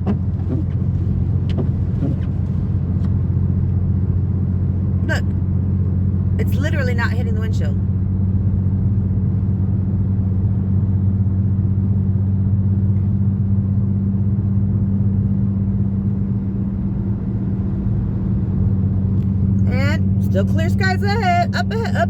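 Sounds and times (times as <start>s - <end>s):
vehicle engine drone in cabin: 0.0s - 22.0s.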